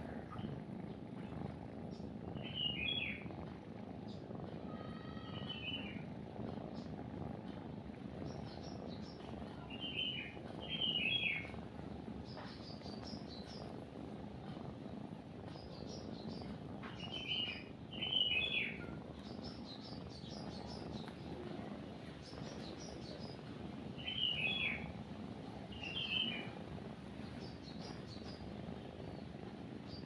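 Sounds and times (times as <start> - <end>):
cat purring: 0.0 - 30.0
songbirds chirping: 0.0 - 30.0.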